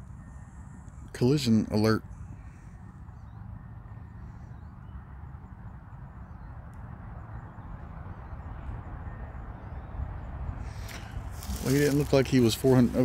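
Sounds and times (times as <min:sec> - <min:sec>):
faint bird chirps: 0:00.0 - 0:11.7.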